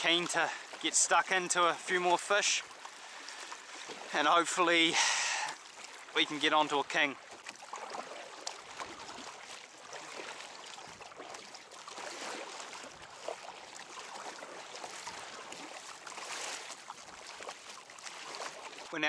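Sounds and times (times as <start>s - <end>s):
paddle strokes splashing: 0.0s - 19.0s
water lapping along hull: 0.0s - 19.0s.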